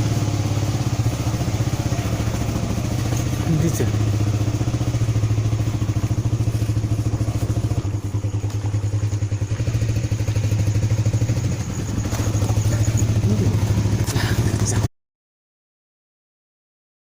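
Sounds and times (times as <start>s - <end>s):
low throbbing drone: 0.0s - 14.9s.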